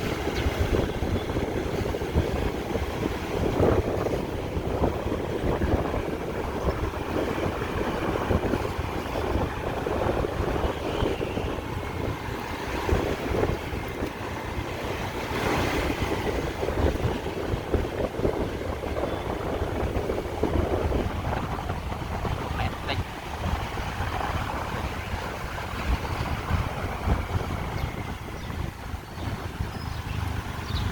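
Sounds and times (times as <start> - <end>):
motorbike and car engines passing: 0.0 - 30.9
road noise: 0.0 - 30.9.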